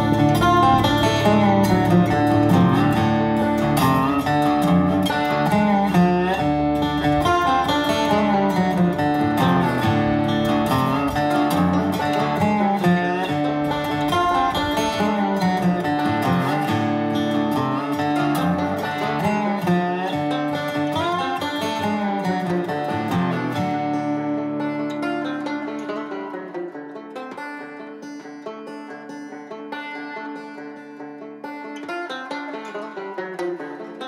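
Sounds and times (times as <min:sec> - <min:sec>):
acoustic guitar background music: 0:00.0 - 0:34.0.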